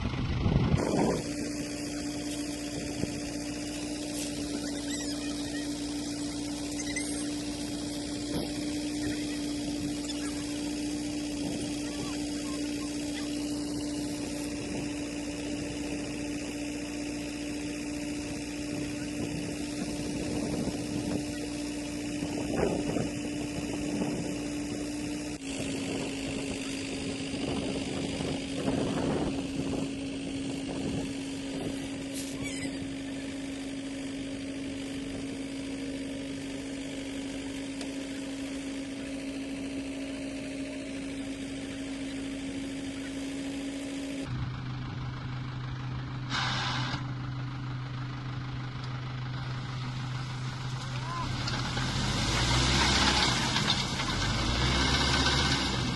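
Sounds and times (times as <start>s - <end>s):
farm machine engine running: 0.0s - 55.9s.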